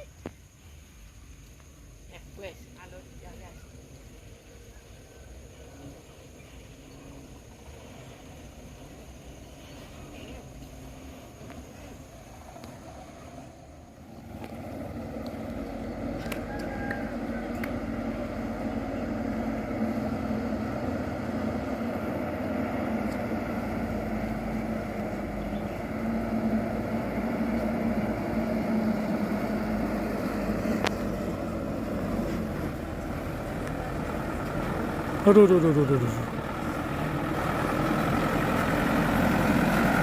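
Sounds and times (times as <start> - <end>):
diesel truck engine humming: 1.9 - 40.0.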